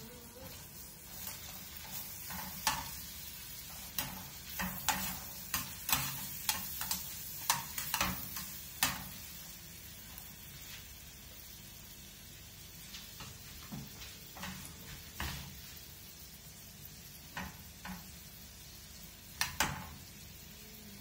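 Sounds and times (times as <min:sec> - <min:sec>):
onions and garlic sizzling in pan: 0:00.0 - 0:21.0.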